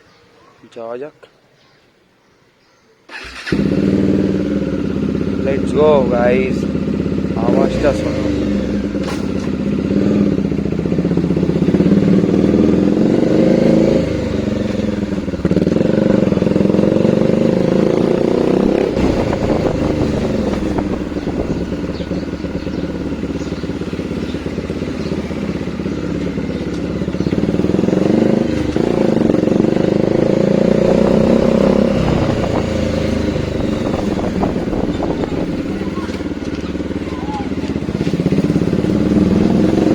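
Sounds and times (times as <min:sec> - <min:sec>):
motorcycle engine accelerating: 0:03.1 - 0:39.9.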